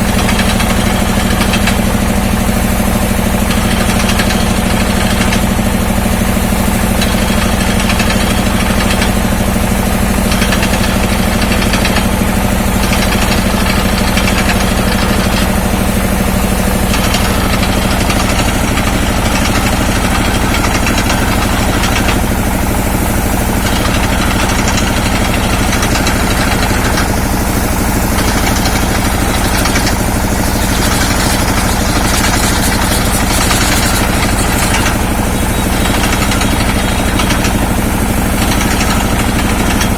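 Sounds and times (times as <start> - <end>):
loud engine pulsing: 0.0 - 39.9.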